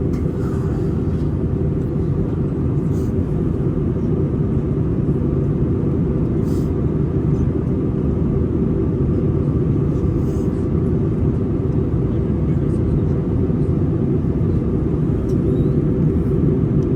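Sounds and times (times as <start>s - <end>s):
jet engines rumbling: 0.0s - 16.9s.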